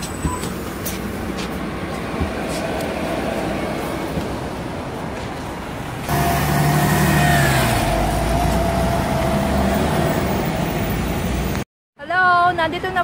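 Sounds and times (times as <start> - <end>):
bus engine rumbling with whine: 0.0 - 11.6.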